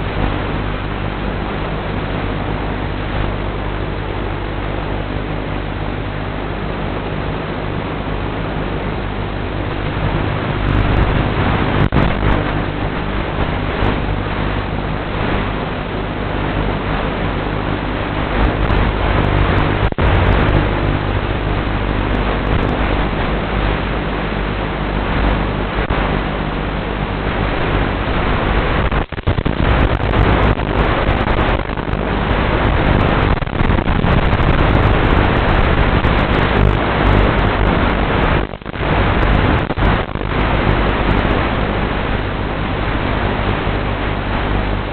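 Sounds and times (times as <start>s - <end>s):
loud steady hiss: 0.0s - 44.9s
low hum: 0.0s - 44.9s.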